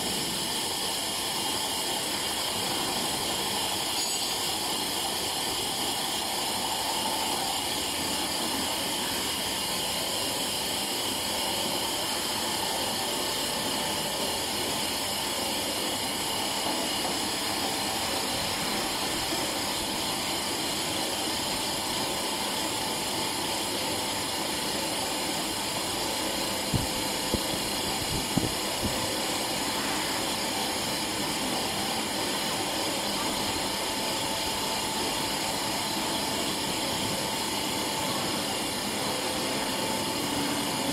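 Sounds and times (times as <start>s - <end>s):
feed extruder machine running: 0.0s - 40.9s.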